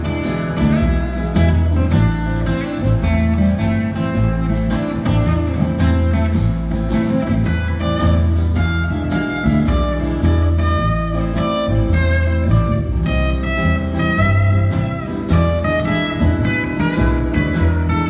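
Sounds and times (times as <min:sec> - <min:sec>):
acoustic guitars playing: 0:00.0 - 0:18.0
plucked double bass: 0:00.0 - 0:18.0.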